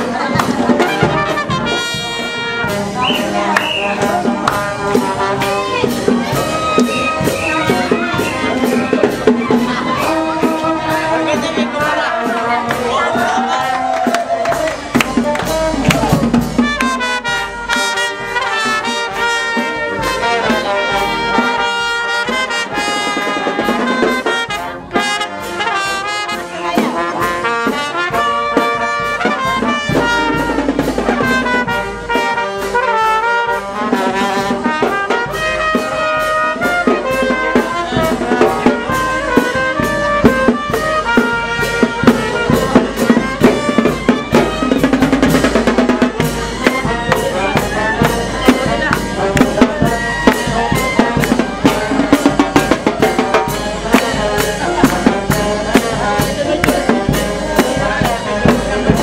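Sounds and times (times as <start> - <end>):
brass marching band playing: 0.0 - 59.0
drum strokes: 0.0 - 59.0.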